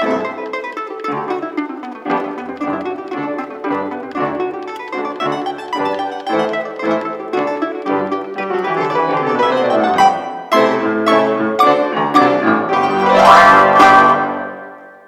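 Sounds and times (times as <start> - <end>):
piano glissando: 0.0 - 15.0
solo piano chords: 2.0 - 15.0.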